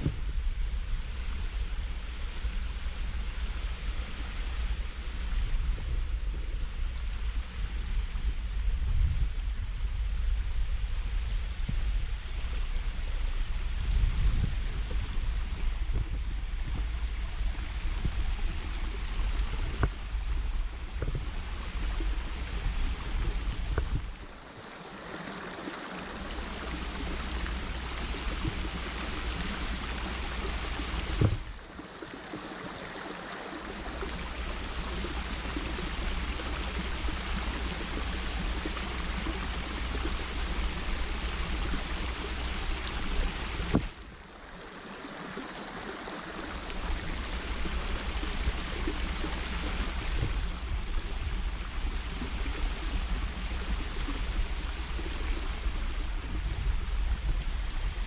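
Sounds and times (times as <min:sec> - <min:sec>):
waterfall rushing over rock: 0:11.0 - 0:58.0.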